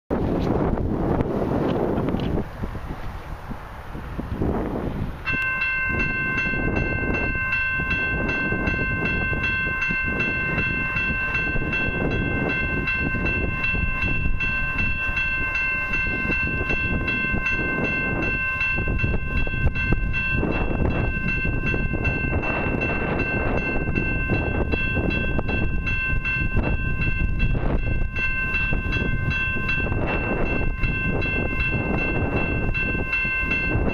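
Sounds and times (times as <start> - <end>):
wind rumble on microphone: 0.1 - 33.9
crossing warning bell ringing: 4.8 - 33.9.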